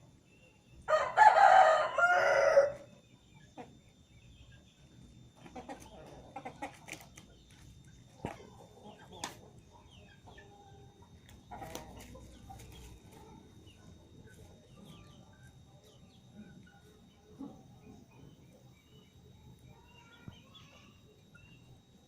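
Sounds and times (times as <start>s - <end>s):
chickens clucking: 1.0s - 21.8s.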